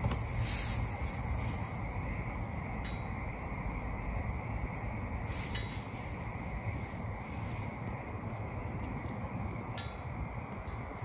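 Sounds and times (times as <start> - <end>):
rush of flame in stove: 0.0 - 11.0
sharp fire crackles: 0.0 - 11.0.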